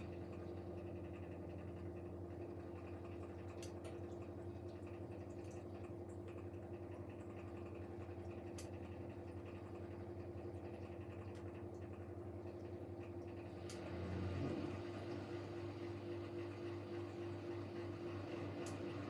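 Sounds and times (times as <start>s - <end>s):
washing machine drain pump humming: 0.0s - 19.0s.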